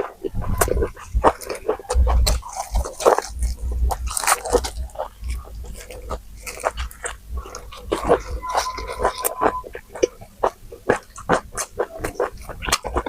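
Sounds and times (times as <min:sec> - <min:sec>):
biting and chewing food: 0:00.0 - 0:13.0.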